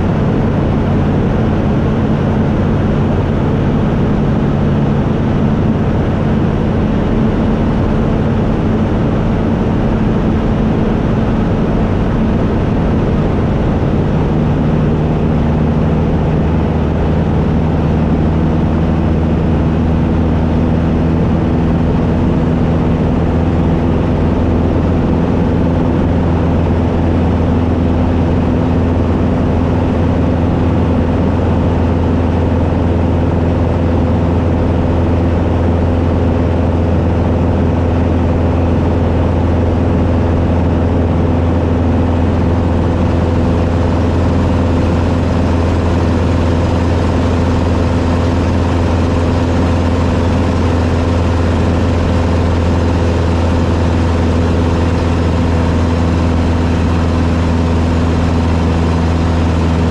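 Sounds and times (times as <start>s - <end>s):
small plane engine droning: 0.0s - 59.9s.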